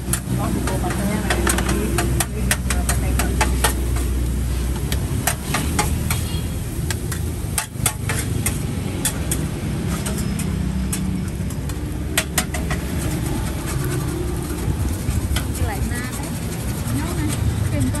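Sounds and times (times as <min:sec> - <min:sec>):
traffic engine hum: 0:00.0 - 0:18.0.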